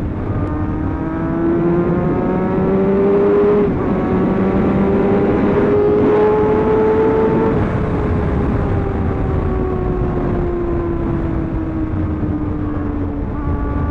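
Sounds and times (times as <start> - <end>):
motorcycle engine accelerating: 0.0 - 13.9
wind noise on microphone: 0.0 - 13.9.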